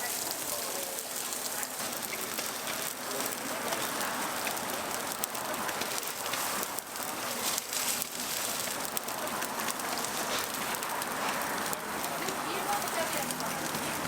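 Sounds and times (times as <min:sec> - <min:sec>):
oil sizzling on a griddle: 0:00.0 - 0:14.0.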